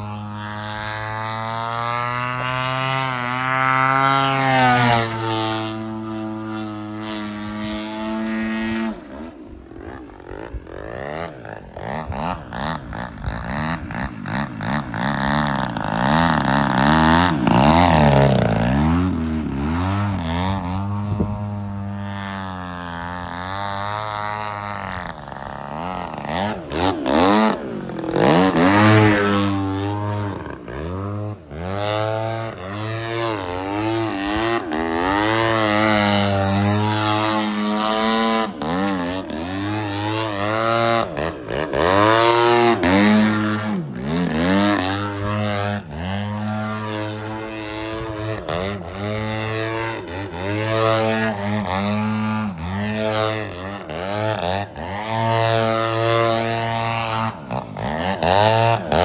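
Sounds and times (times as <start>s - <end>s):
model airplane engine: 0.0s - 59.0s.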